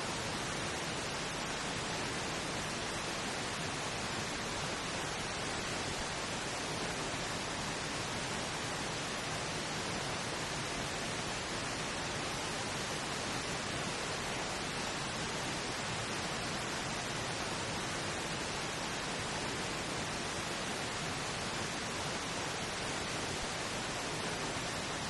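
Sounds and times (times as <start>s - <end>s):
pink noise hiss: 0.0s - 25.0s.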